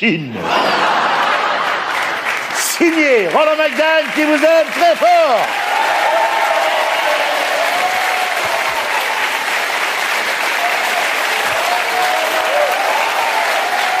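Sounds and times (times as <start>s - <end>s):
audience applauding: 0.7s - 14.0s.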